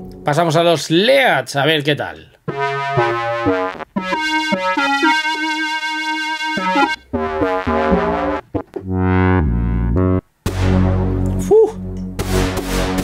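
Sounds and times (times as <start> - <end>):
synthesizer lead notes: 2.5 - 13.0.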